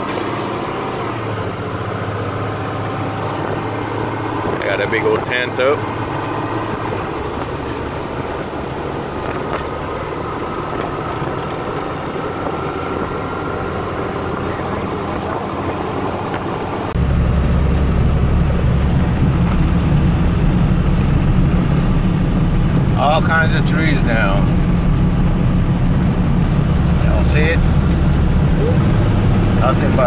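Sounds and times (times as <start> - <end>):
engine and road noise in cab: 0.0 - 30.0.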